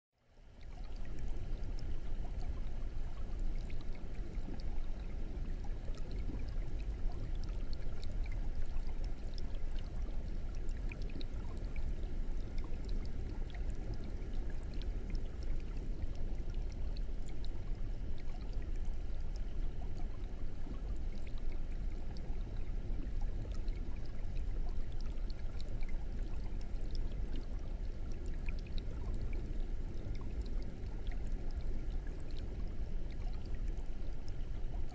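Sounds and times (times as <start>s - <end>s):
air bubbles popping in water: 0.6s - 34.9s.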